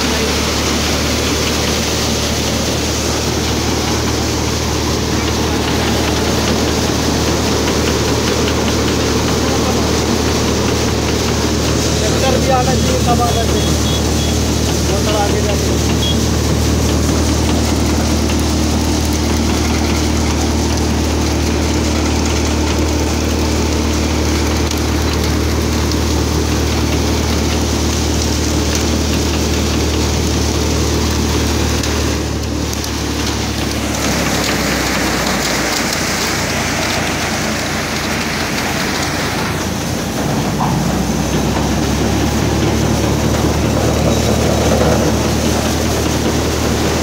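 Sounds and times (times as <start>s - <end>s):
hiss and rattle of crop: 0.0s - 47.0s
thresher low drone: 0.0s - 47.0s.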